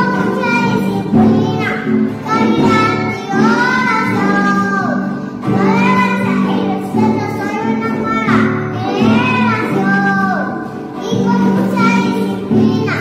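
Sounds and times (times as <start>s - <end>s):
girl singing: 0.0s - 13.0s
guitar accompaniment: 0.0s - 13.0s.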